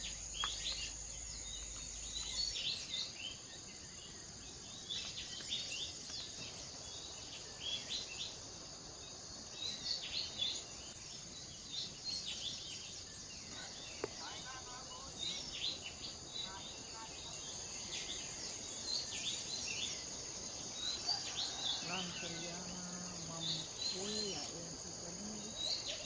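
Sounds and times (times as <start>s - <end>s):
birds chirping: 0.0s - 26.0s
insects droning: 0.0s - 26.0s.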